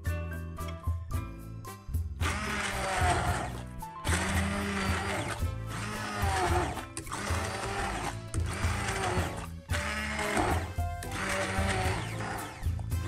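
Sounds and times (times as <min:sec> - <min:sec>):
background music: 0:00.0 - 0:13.0
immersion blender running: 0:02.2 - 0:13.0.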